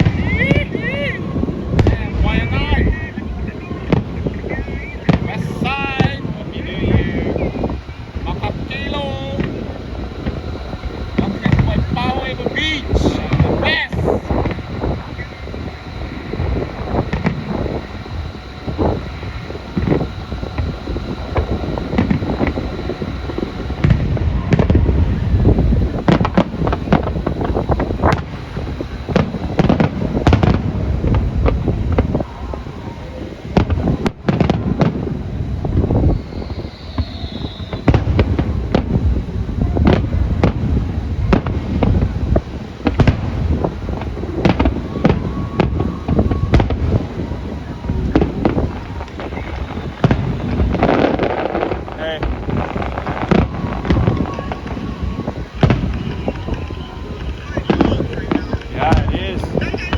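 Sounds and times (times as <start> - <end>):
fireworks booming and crackling: 0.0 - 59.9
wind on microphone: 0.0 - 59.9.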